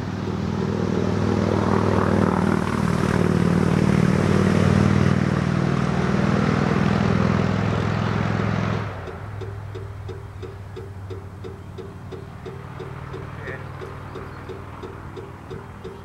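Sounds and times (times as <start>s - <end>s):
loud engine drone: 0.0s - 16.0s.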